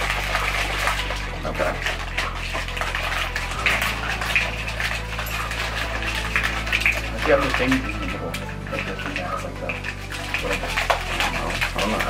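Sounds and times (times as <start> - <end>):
ice sloshing in shaker cup: 0.0 - 12.0.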